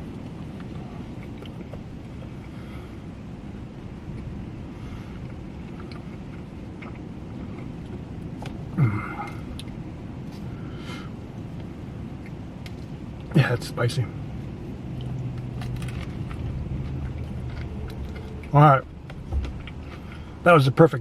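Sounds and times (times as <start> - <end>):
car idling: 0.0 - 21.0.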